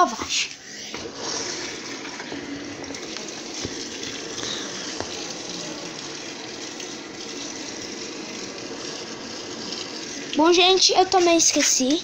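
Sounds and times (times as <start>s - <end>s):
water rushing into washing machine: 0.0s - 12.0s.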